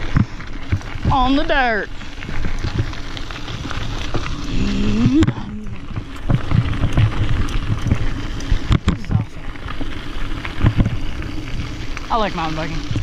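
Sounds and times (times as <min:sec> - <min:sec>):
bike tyres rumbling over gravel: 0:00.0 - 0:13.0.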